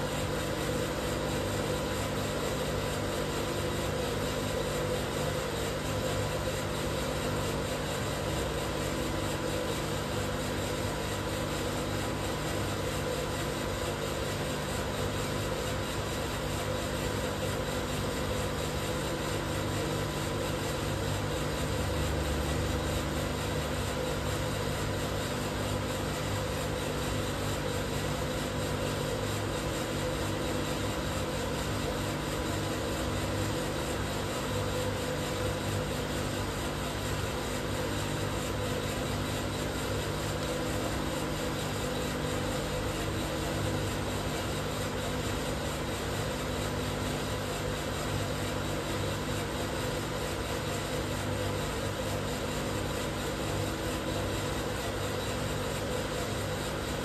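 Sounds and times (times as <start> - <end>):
coffee roaster humming: 0.0 - 57.0.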